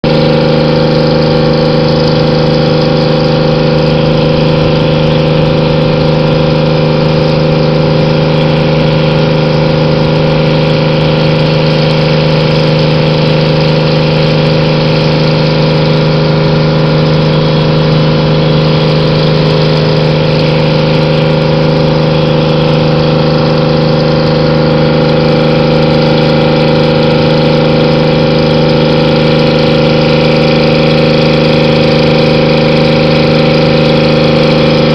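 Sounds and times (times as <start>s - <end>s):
boat engine droning: 0.0s - 34.9s.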